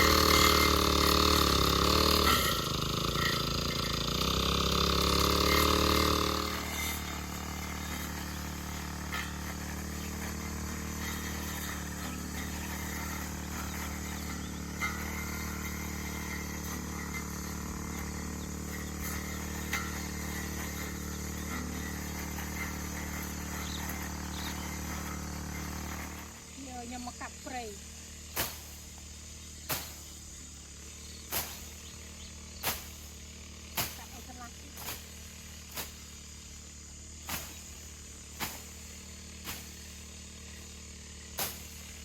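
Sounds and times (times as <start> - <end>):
faint outdoor background noise: 0.0 - 42.0.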